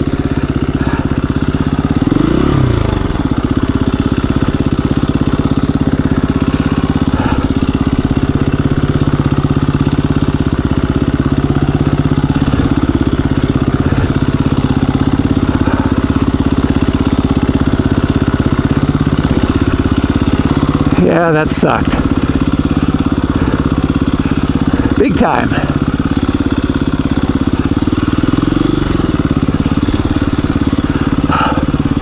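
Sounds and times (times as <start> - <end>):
dirt bike engine idling: 0.0 - 32.0.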